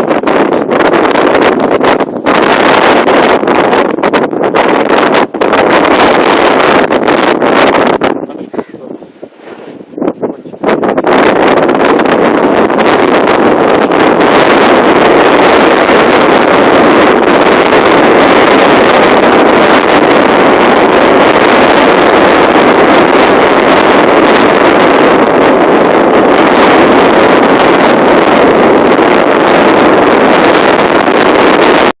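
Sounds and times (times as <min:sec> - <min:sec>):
strong wind on microphone: 0:00.0 - 0:32.0.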